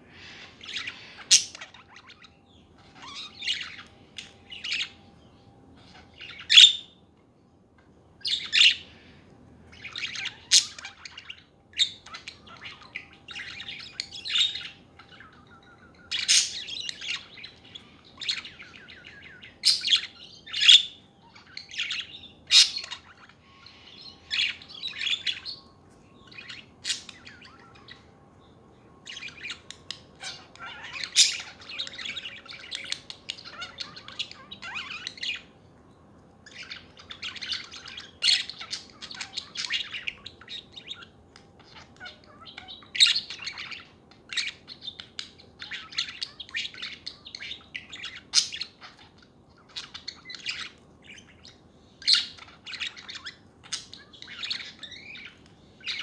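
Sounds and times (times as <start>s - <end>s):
budgerigars chattering: 0.2s - 5.1s, 5.7s - 7.0s, 8.2s - 9.0s, 9.6s - 35.6s, 36.4s - 56.0s.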